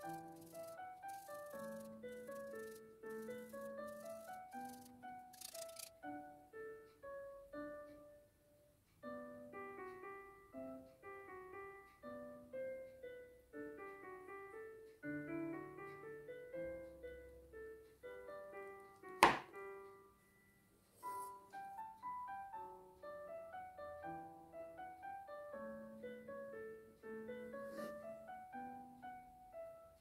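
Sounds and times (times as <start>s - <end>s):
piano melody: 0.0s - 30.0s.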